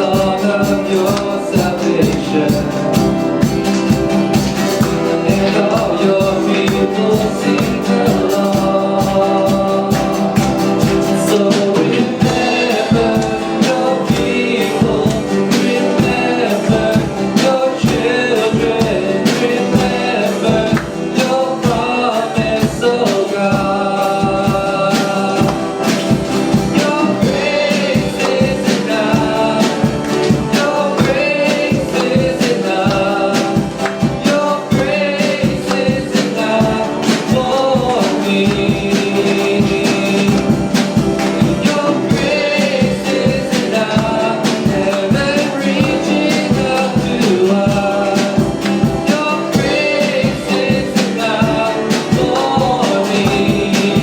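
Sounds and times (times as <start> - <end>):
worship band playing and singing: 0.0 - 54.0.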